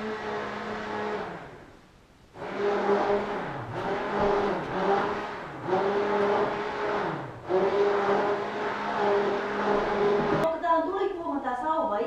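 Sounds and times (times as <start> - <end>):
electric whisk motor whine: 0.0 - 10.5.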